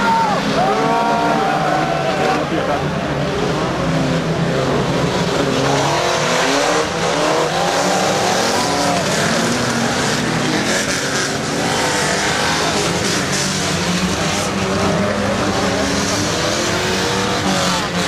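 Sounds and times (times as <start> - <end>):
racing car engines revving: 0.0 - 18.0.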